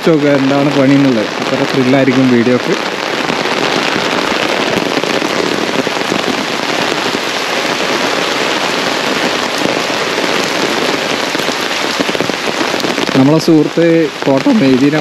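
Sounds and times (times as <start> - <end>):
rain on an umbrella: 0.0 - 15.0
rain on wet road: 0.0 - 15.0.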